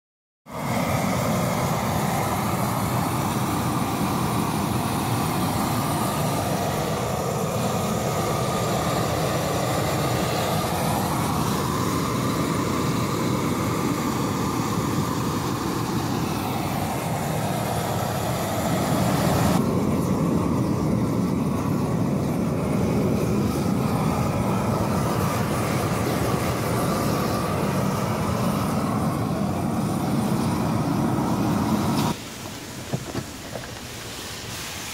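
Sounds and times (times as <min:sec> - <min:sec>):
gas burners roaring: 0:00.5 - 0:34.9.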